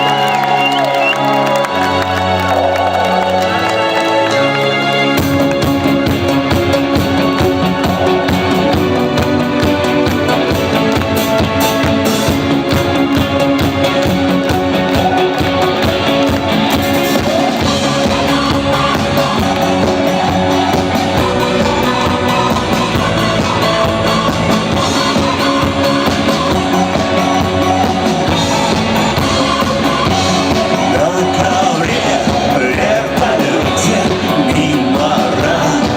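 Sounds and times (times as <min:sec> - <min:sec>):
rock music with drums and guitar: 0:04.2 - 0:35.9.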